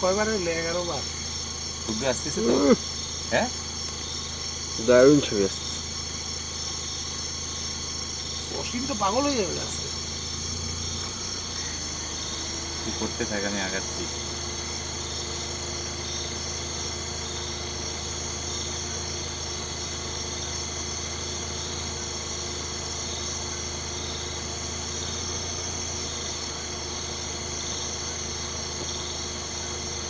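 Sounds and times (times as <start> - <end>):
night insects chorus: 0.0 - 30.0
vehicle engine idling: 0.0 - 30.0.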